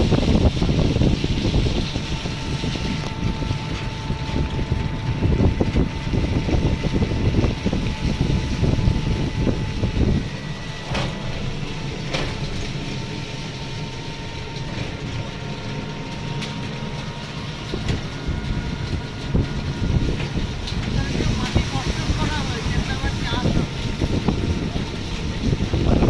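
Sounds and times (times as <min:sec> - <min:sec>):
road and vehicle noise: 0:00.0 - 0:26.0
wind buffeting on microphone: 0:00.0 - 0:26.0.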